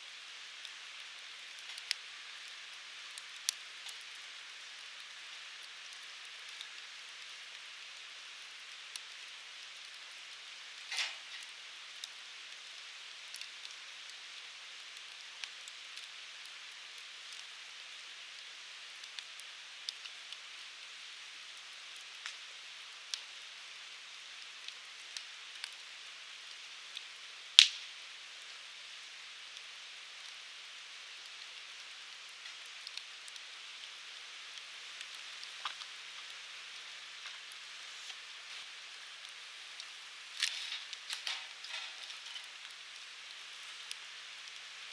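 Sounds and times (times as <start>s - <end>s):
fire crackling: 0.0s - 44.9s
wood fire hissing: 0.0s - 44.9s.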